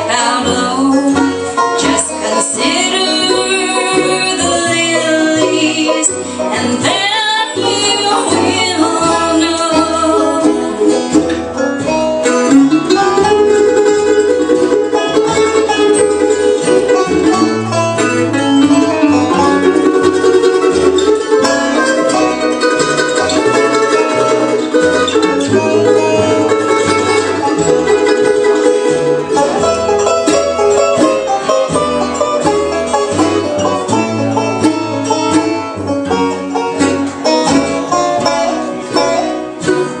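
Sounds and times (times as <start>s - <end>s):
acoustic guitar: 0.0s - 40.0s
banjo: 0.0s - 40.0s
mandolin: 0.0s - 40.0s.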